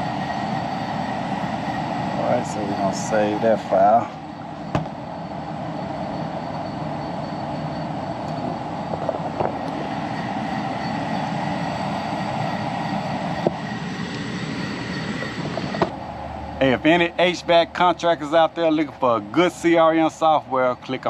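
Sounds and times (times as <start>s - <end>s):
blower rushing air: 0.0s - 20.6s.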